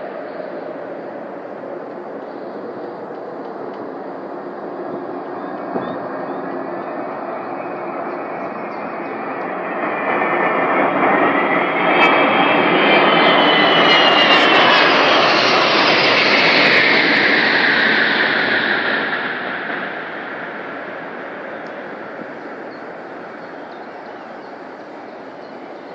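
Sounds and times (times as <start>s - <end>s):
military airplanes flying over: 0.0s - 25.9s.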